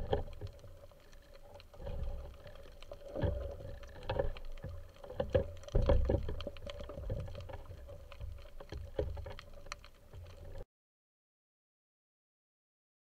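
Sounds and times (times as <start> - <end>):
muffled underwater water rushing: 0.0 - 10.6.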